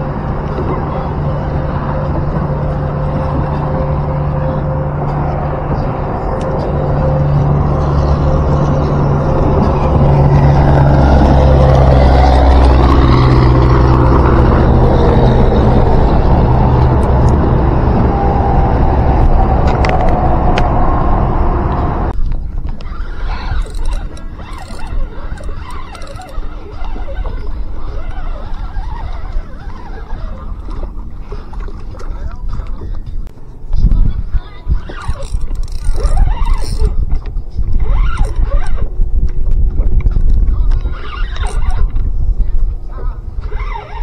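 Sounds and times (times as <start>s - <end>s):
outboard motor running: 0.0s - 18.3s, 21.6s - 44.0s
water noise: 0.0s - 44.0s
wind: 0.0s - 44.0s.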